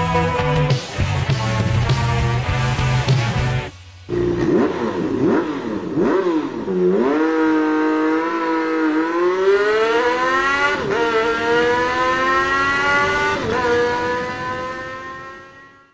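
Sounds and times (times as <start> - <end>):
vehicle engine accelerating: 1.4 - 15.9.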